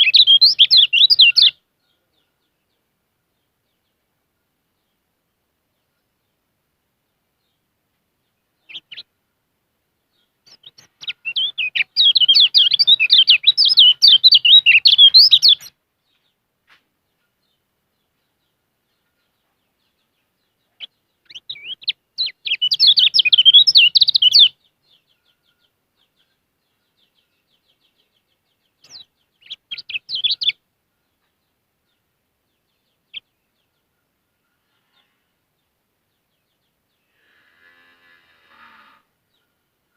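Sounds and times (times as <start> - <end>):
songbird twittering chirps: 0.0 - 38.0.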